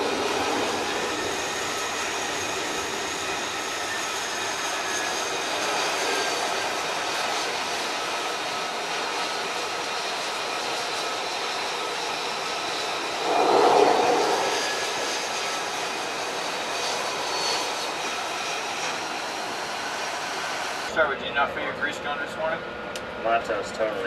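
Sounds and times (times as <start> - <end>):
jet engine running: 0.0 - 20.9.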